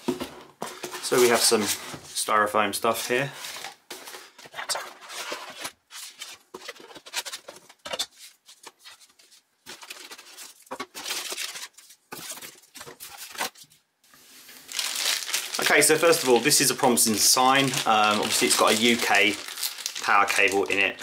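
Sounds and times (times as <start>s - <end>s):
packaging rustling and crinkling: 3.0s - 13.7s, 14.6s - 21.0s.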